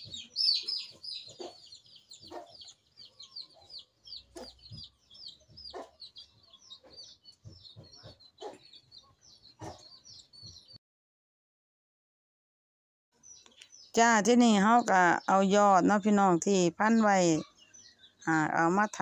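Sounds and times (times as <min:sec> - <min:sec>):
birds chirping: 0:00.0 - 0:10.8, 0:13.2 - 0:19.0.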